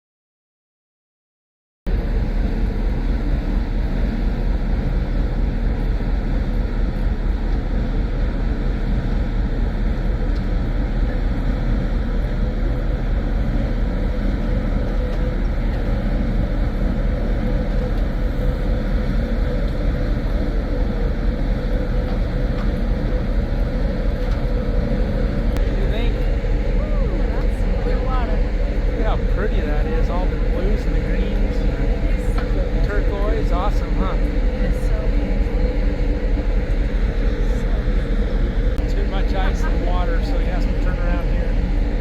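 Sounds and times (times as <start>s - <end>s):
ship engine drone: 1.9s - 42.0s.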